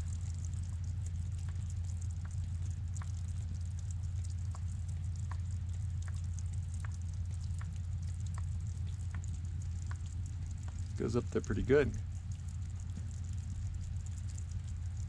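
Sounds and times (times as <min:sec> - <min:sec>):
steady low rumble: 0:00.0 - 0:15.0
water dripping: 0:00.0 - 0:15.0.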